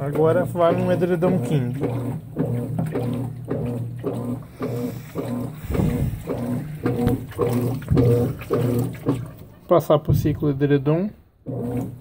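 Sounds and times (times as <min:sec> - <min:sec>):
washing machine motor pulsing hum: 0:00.0 - 0:12.0
water sloshing in drum: 0:00.0 - 0:12.0.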